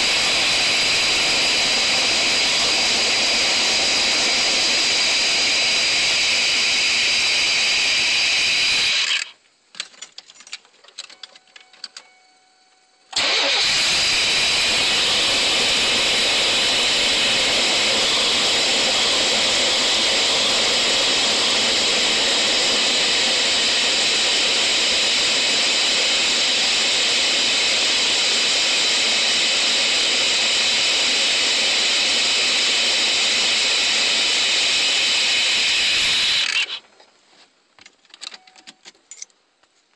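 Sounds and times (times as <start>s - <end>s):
van engine hissing roar: 0.0s - 8.9s, 13.2s - 36.3s.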